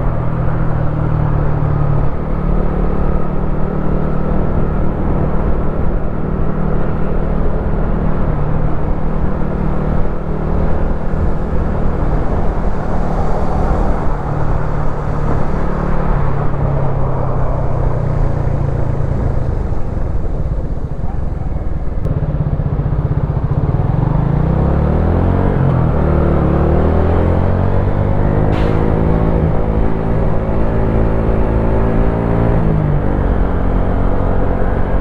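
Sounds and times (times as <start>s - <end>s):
motorcycle engine rumbling: 0.0s - 35.0s.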